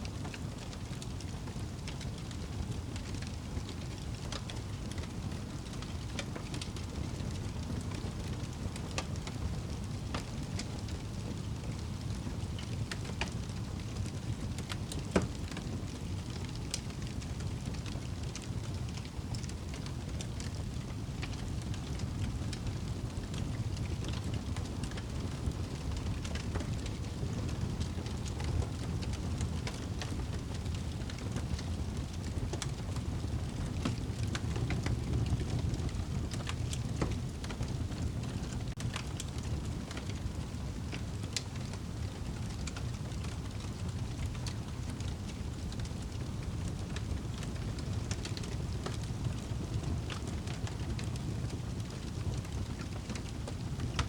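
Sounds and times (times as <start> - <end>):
fire crackling in a fireplace: 0.0 - 54.0.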